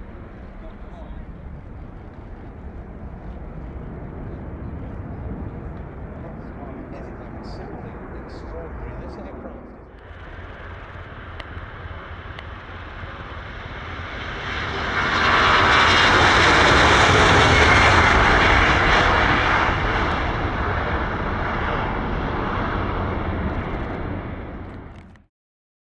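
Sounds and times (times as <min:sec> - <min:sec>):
jet engines roaring with whine: 0:00.0 - 0:25.3.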